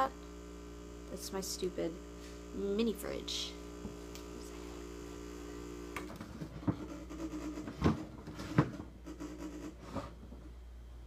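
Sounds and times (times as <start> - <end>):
fridge compressor humming: 0.0 - 11.0.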